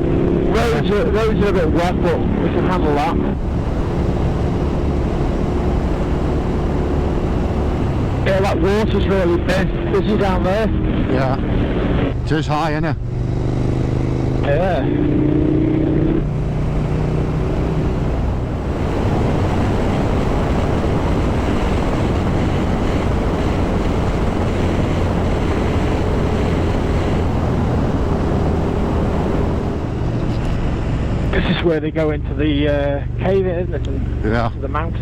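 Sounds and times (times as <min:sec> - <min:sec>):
wind rushing over microphone: 0:00.0 - 0:31.7
motorcycle engine droning: 0:00.0 - 0:35.0.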